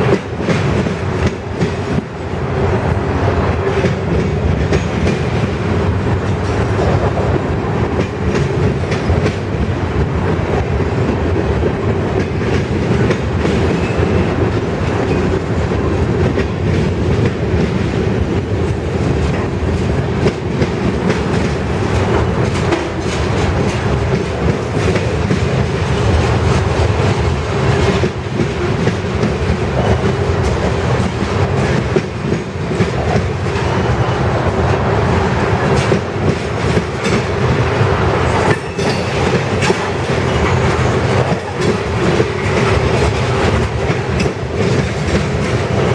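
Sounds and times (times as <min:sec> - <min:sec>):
freight train rumbling past: 0:00.0 - 0:45.9
wheels clacking over rail joints: 0:03.0 - 0:45.9.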